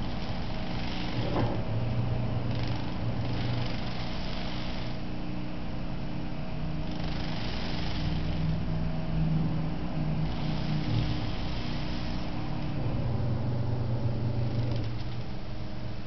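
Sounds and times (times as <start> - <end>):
small motor humming: 0.0 - 16.0.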